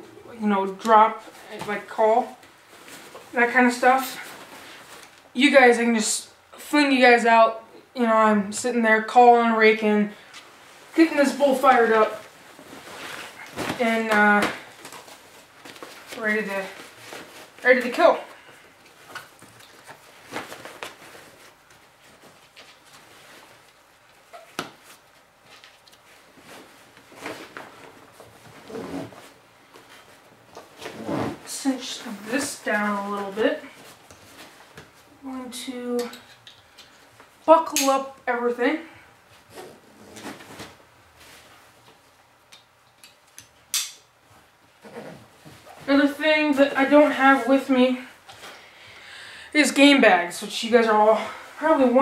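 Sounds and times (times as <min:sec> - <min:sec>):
fabric and webbing rustling: 0:00.0 - 0:07.2, 0:08.0 - 0:49.0, 0:49.6 - 0:52.0.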